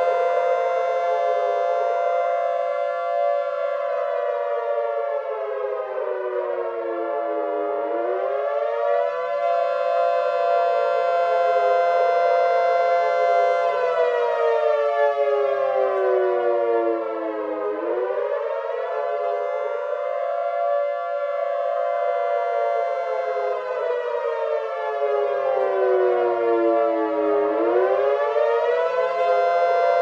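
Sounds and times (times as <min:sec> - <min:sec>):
wailing siren: 0:00.0 - 0:30.0.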